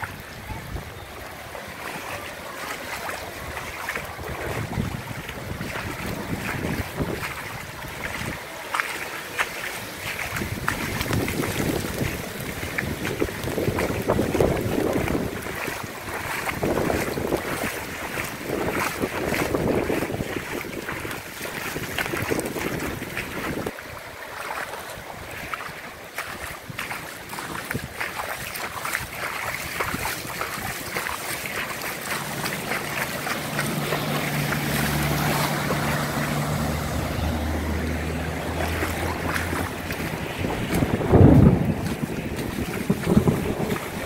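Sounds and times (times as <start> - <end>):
floodwater running: 0.0 - 44.0
wind buffeting microphone: 0.0 - 44.0.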